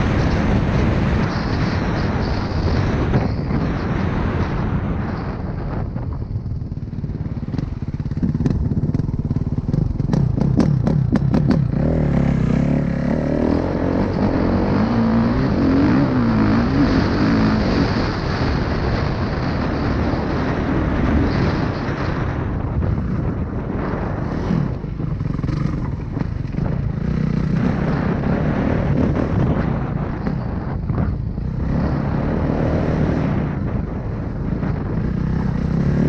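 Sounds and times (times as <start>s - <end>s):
dirt bike engine revving: 7.0s - 36.0s.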